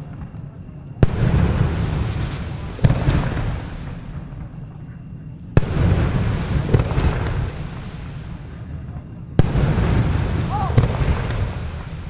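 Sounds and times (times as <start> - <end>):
faint firework crack: 0.0 - 12.0
firework bangs with echo: 1.0 - 4.7, 5.6 - 12.0.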